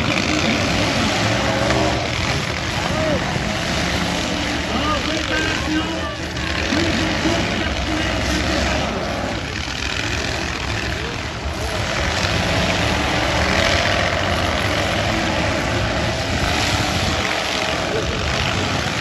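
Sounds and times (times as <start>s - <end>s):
car engines rumbling: 0.0s - 19.0s.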